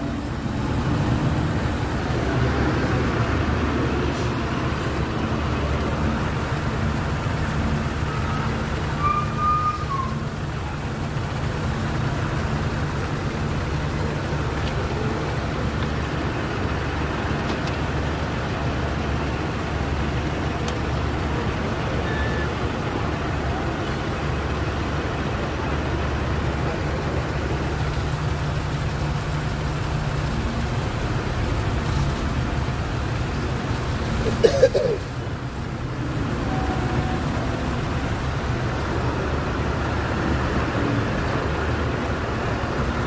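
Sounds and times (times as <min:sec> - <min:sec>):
truck engine drone: 0:00.0 - 0:43.0.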